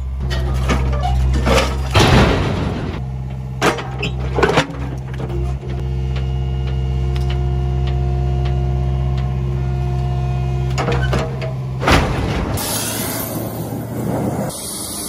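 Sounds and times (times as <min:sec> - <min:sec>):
excavator engine and hydraulics droning: 0:00.0 - 0:15.0.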